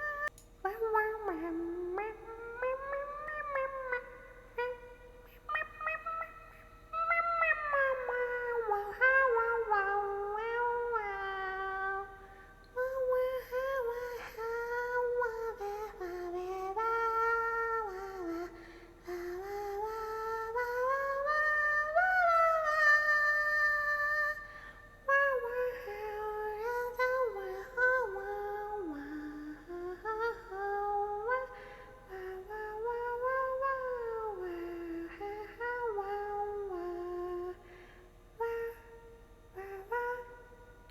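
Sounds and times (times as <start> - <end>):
woman humming and crooning: 0.0 - 24.5, 25.1 - 37.6, 38.4 - 40.9.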